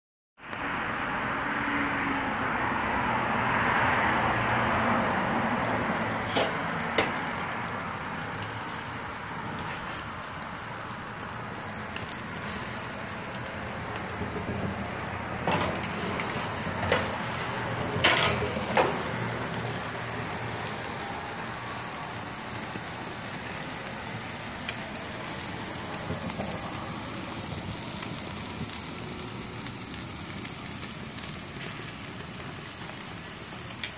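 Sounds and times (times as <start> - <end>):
steaks sizzling on a grill: 5.5 - 33.9.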